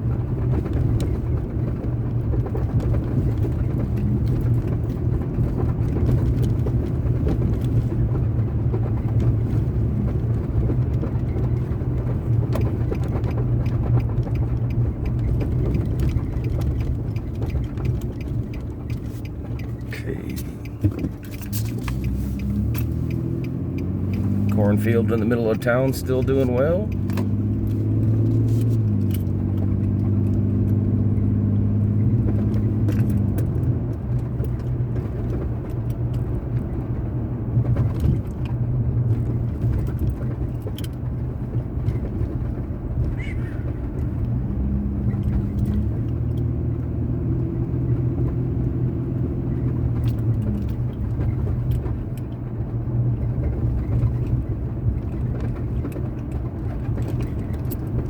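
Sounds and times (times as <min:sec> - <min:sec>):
car engine drone: 0:00.0 - 0:58.0
tyre and road noise: 0:00.0 - 0:58.0.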